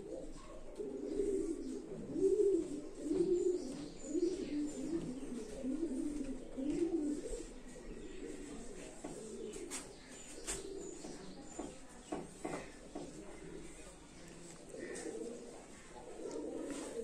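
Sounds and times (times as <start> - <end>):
pigeons cooing: 0.0 - 13.8, 14.6 - 17.0.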